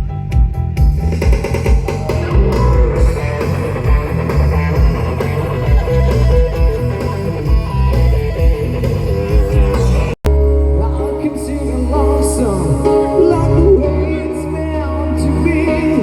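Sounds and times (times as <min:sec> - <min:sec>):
live band playing instrumental: 0:00.0 - 0:16.0.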